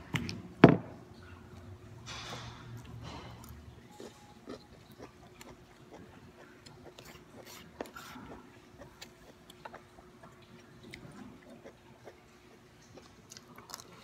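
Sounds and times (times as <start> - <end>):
faint steady hum: 0.0 - 14.0
faint chewing: 1.2 - 14.0.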